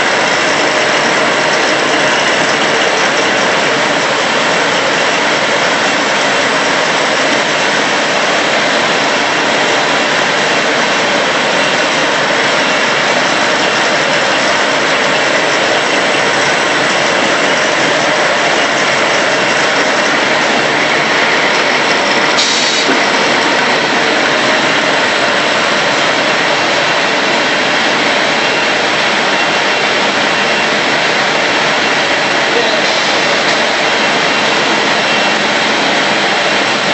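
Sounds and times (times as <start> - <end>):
paper cutting machine running: 0.0 - 36.9.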